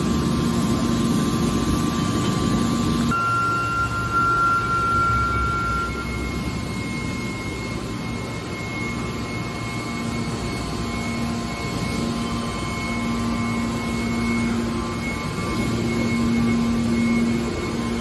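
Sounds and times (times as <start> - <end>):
hydraulic power unit whirring: 0.0 - 18.0.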